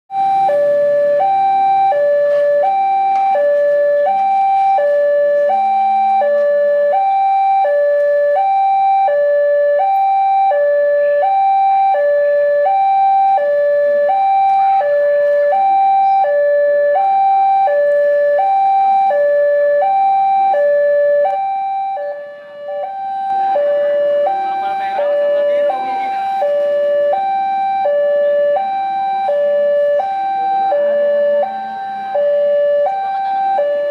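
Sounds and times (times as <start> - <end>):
level crossing two-tone alarm: 0.1 - 33.9.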